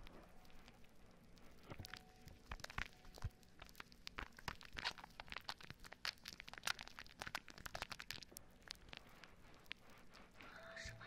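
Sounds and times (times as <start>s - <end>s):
soap foam crackling and popping: 0.0s - 11.0s.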